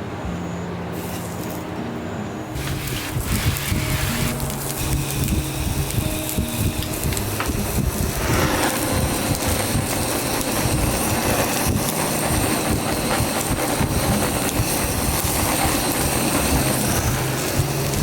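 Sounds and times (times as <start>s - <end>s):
faint high whine: 0.0s - 18.0s
heavy rain pouring: 2.6s - 18.0s.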